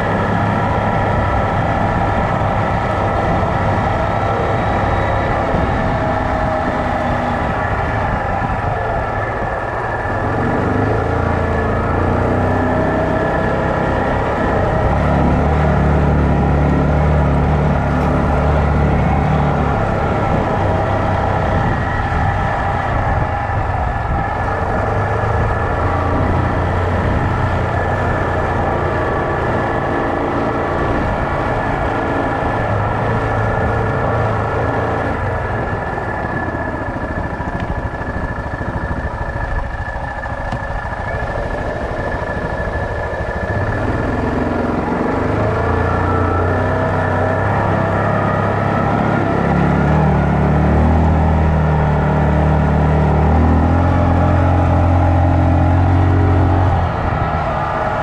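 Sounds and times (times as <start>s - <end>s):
atv engine running: 0.0s - 58.0s
high whine: 0.0s - 58.0s.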